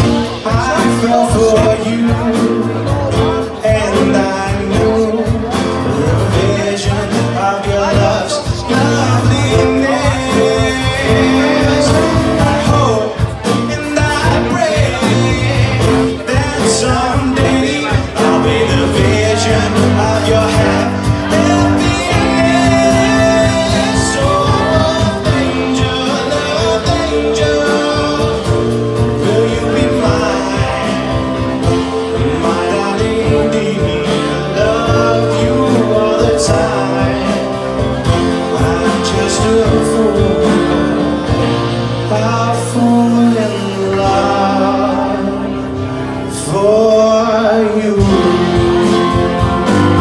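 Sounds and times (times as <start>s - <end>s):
bass guitar: 0.0s - 50.0s
electric guitar: 0.0s - 50.0s
man singing into a microphone: 0.0s - 50.0s.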